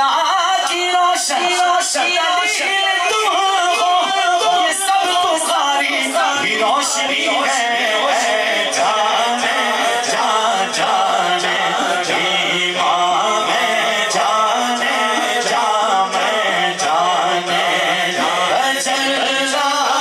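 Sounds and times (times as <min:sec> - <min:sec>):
men singing unaccompanied: 0:00.0 - 0:20.0.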